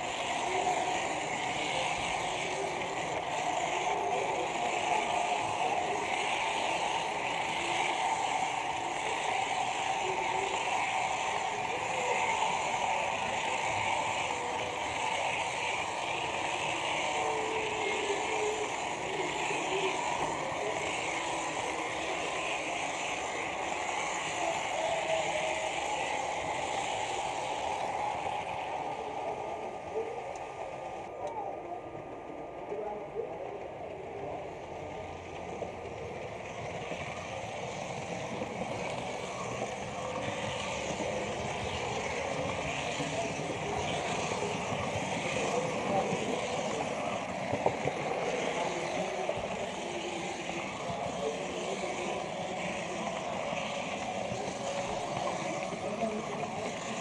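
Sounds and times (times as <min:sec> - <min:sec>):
model train rolling on track: 0:00.0 - 0:57.0.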